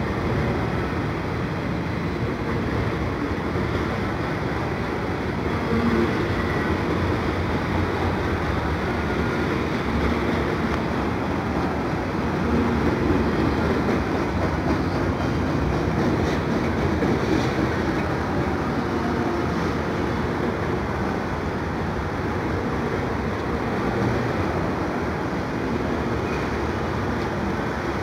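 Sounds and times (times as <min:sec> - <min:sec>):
steel train wheels on rails: 0:00.0 - 0:28.0.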